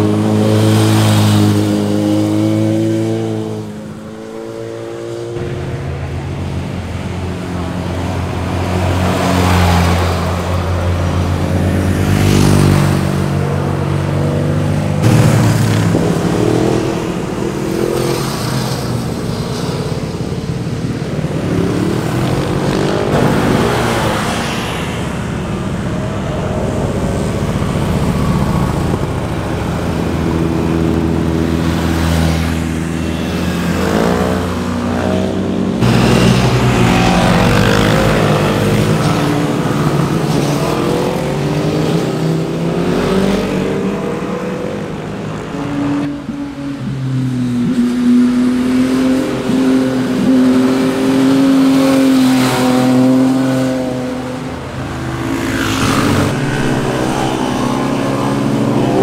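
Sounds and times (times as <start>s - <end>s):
motorcycles passing by: 0.0s - 59.0s.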